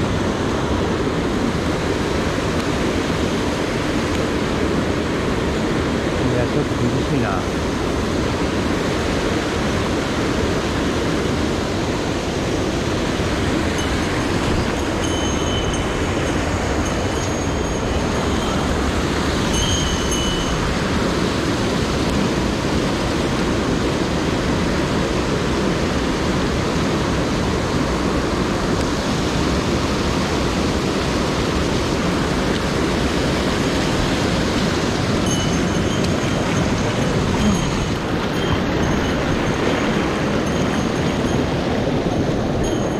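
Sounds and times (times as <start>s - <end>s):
stream rushing over boulders: 0.0s - 42.9s.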